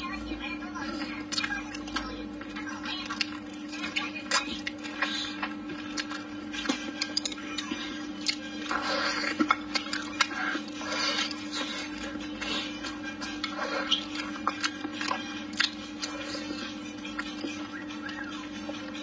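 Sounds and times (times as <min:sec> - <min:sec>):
steady low hum: 0:00.0 - 0:19.0
wet chewing and sucking: 0:01.0 - 0:19.0.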